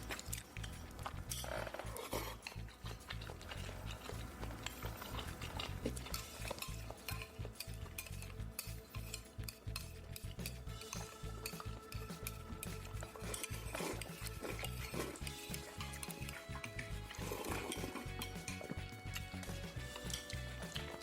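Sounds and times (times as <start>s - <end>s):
utensils clinking against dishes: 0.0s - 21.0s.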